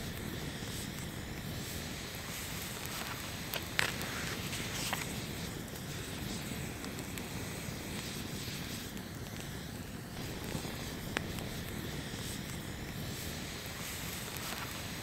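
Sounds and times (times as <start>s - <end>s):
campfire crackling and popping: 0.0s - 15.0s
low rush of fire: 0.0s - 15.0s.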